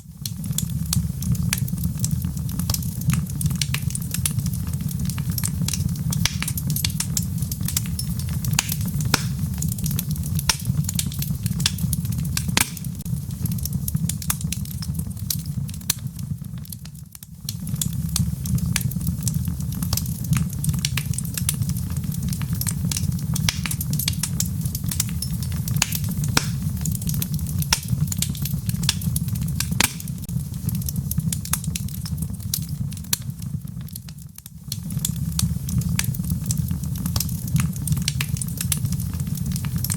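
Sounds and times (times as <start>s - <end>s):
low rumble of flame: 0.0s - 39.9s
wood fire pops and snaps: 0.0s - 39.9s.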